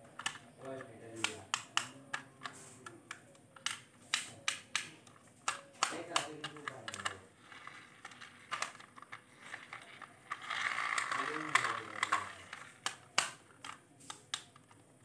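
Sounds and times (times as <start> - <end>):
plastic toy clicking and tapping: 0.1 - 7.2, 8.0 - 15.0.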